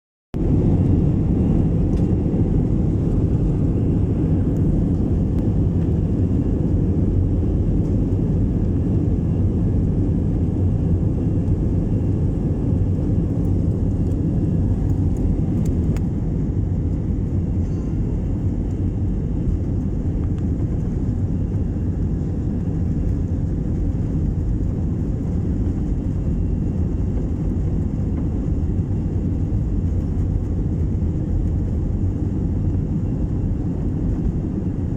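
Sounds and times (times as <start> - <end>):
airplane engines rumbling: 0.4 - 34.9.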